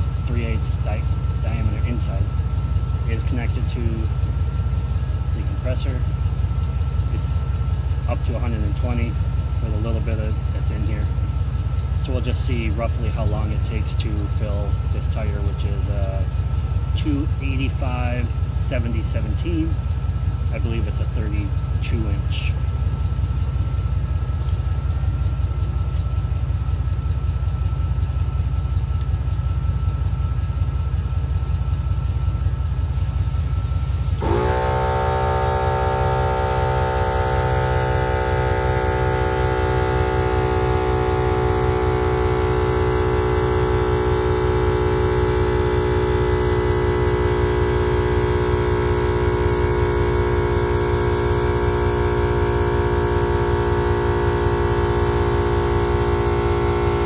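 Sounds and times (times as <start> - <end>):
air compressor droning: 0.0 - 57.0
loud humming tone: 0.0 - 57.0.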